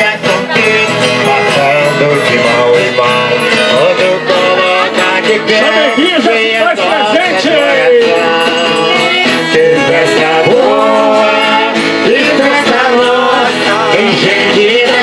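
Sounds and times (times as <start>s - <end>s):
button accordion playing: 0.0s - 15.0s
voices singing: 0.0s - 15.0s.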